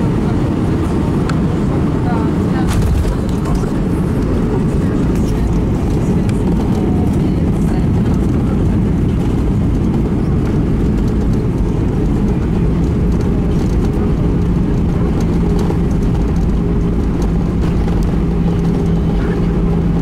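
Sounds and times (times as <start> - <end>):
airplane cabin rumble: 0.0 - 20.0
steady hum: 0.8 - 20.0.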